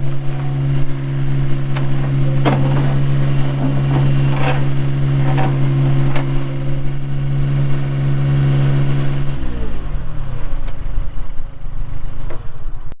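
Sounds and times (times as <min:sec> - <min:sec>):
diesel engine chugging: 0:00.0 - 0:12.9.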